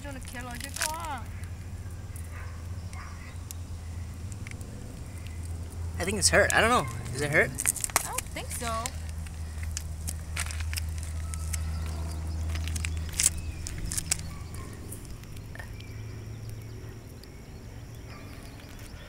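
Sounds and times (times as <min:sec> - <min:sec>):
footsteps on gritty asphalt: 0:00.0 - 0:17.4
low steady hum: 0:00.0 - 0:18.8.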